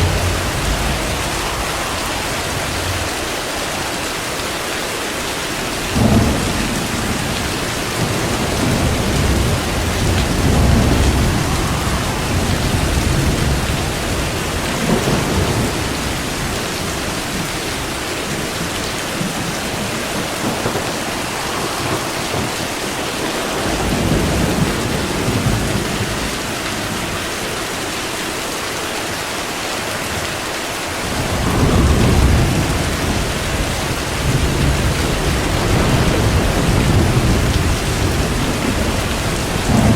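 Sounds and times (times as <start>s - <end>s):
thunder rolling: 0.0s - 27.4s, 30.8s - 39.9s
heavy rain: 0.0s - 39.9s.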